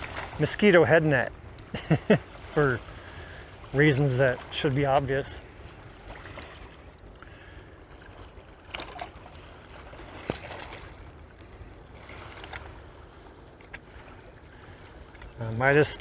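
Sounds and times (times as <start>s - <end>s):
small waves lapping: 0.0s - 16.0s.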